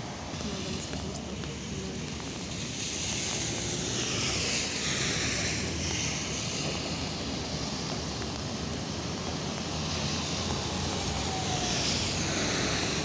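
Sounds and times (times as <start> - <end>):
car tyres hissing on wet road: 0.0 - 13.0
low traffic rumble: 0.0 - 13.0.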